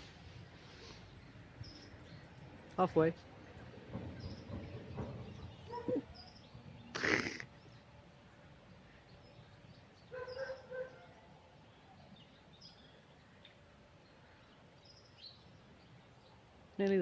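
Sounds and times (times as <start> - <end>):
small birds chirping: 0.7 - 17.0.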